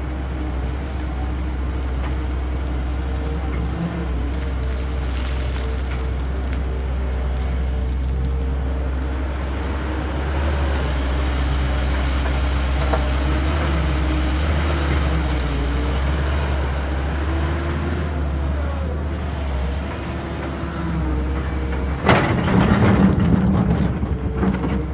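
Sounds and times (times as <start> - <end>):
diesel earthmoving machinery humming: 0.0 - 24.9.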